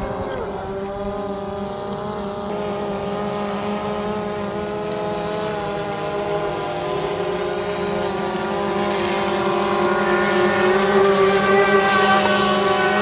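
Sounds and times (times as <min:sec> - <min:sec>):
drone propellers humming: 0:00.0 - 0:13.0
electric motor whine: 0:00.0 - 0:13.0.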